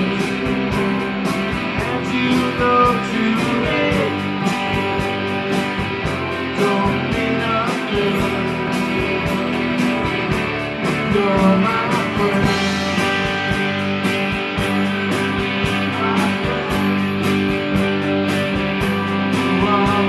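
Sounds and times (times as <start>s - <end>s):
electric guitars: 0.0s - 20.0s
steady drum beat: 0.0s - 20.0s.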